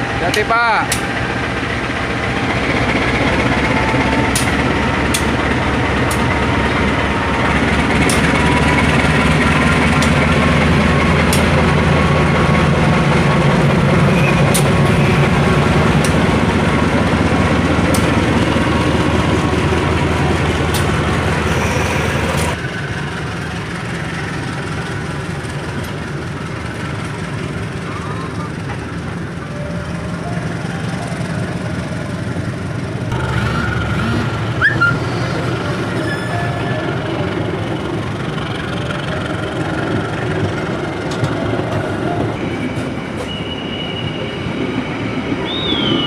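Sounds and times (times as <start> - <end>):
locomotive engine running: 0.0 - 46.0
train coaches rolling past: 0.0 - 46.0.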